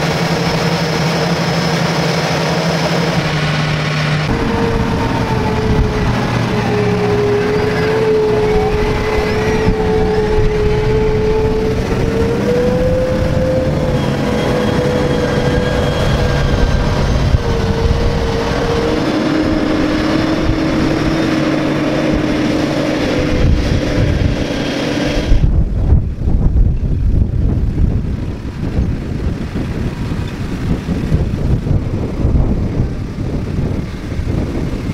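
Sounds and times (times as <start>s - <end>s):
large tractor engines running: 0.0s - 34.9s
machine whine: 0.0s - 34.9s.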